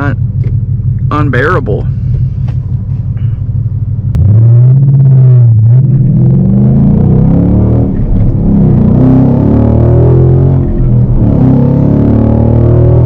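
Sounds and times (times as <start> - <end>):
car engine driving: 0.0 - 13.0.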